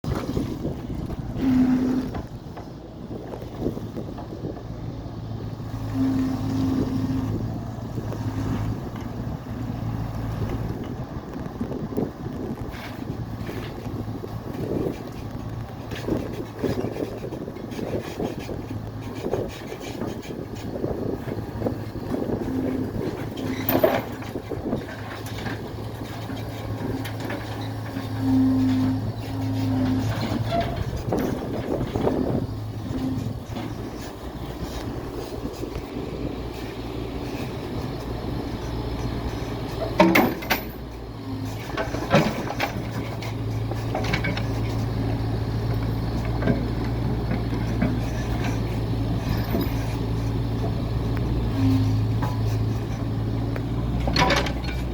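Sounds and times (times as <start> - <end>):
diesel engine running: 0.0 - 54.9
wind buffeting microphone: 0.0 - 54.9.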